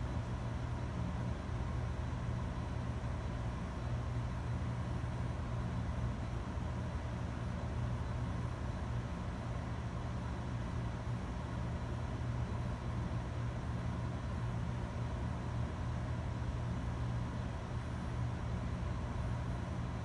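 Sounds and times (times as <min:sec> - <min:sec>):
computer fan noise: 0:00.0 - 0:20.0
low electrical hum: 0:00.0 - 0:20.0.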